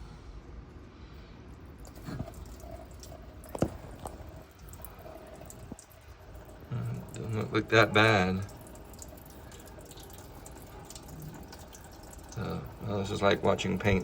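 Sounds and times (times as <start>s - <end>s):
liquid trickling and dripping: 1.5s - 14.0s.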